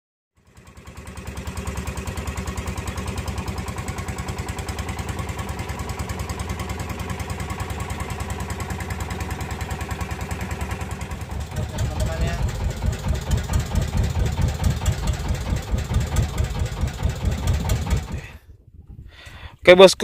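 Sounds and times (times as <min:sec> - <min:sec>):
boat engine pulsing: 0:00.4 - 0:18.6.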